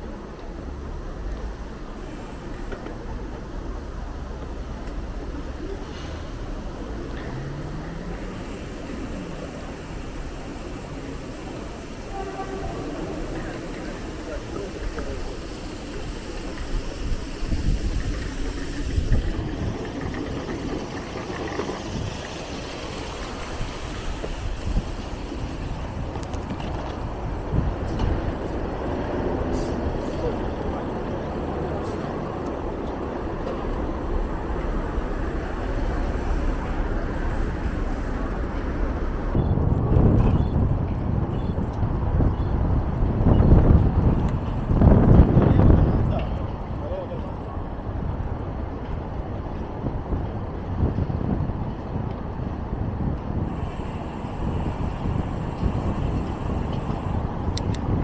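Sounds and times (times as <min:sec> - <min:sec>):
city traffic rumble: 0:00.0 - 0:58.0
wind buffeting microphone: 0:08.1 - 0:58.0.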